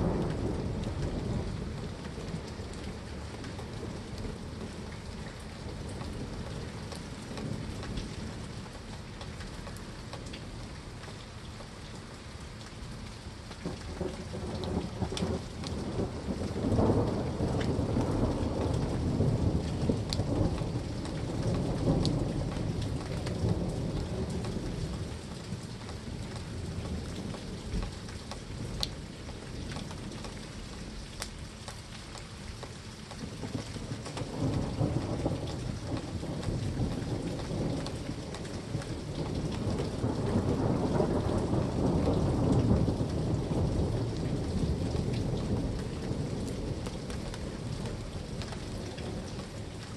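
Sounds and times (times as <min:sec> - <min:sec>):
low rolling thunder: 0:00.0 - 0:08.7, 0:13.6 - 0:31.0, 0:33.2 - 0:49.9
steady rain: 0:00.0 - 0:49.9.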